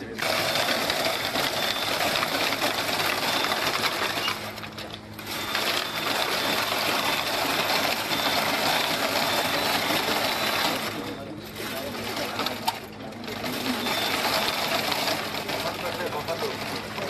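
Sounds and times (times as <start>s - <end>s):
model tubs rattling on rails: 0.0s - 17.0s.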